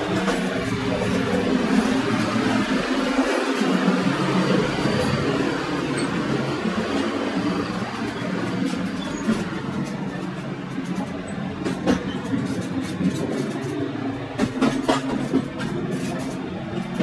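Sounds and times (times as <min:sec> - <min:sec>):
train wheels rumbling on rails: 0:00.0 - 0:17.0
wheels clacking over rail joints: 0:00.0 - 0:17.0.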